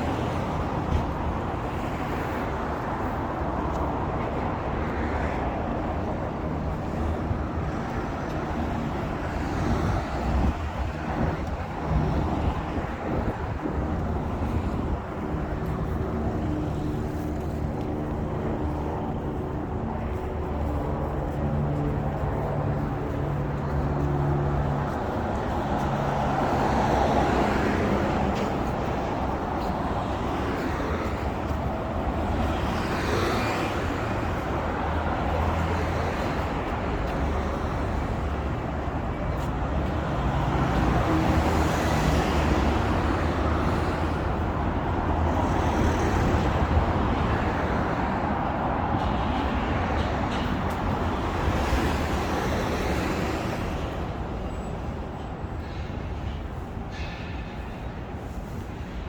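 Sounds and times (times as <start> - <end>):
traffic rumble with engine hum: 0.0 - 59.0
vehicles passing by: 0.0 - 59.0.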